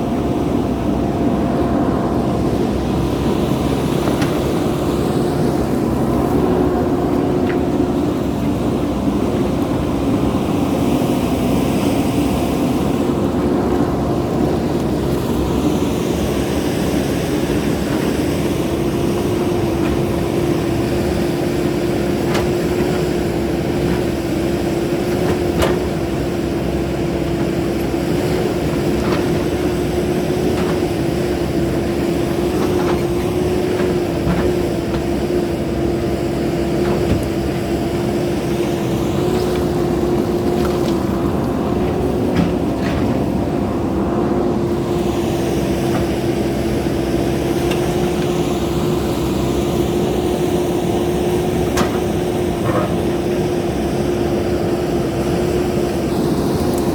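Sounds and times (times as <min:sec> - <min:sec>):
backhoe loader engine running: 0:00.0 - 0:56.9.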